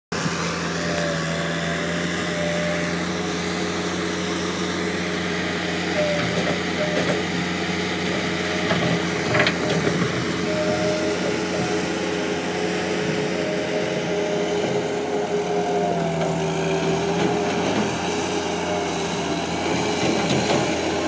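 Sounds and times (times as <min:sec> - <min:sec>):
diesel engine running: 0:00.1 - 0:21.0.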